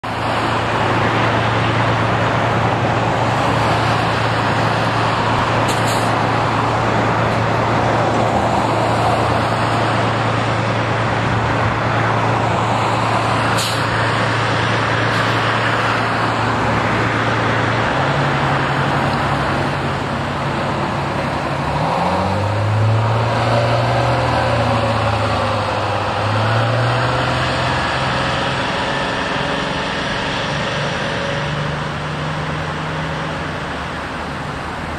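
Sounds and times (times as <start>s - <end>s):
low engine drone: 0.0s - 34.9s
road traffic: 0.0s - 34.9s.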